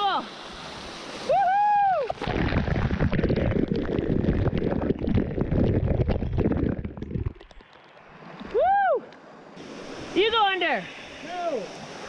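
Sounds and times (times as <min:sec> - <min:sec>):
waterfall splashing on microphone: 0:00.0 - 0:09.0, 0:09.6 - 0:12.0.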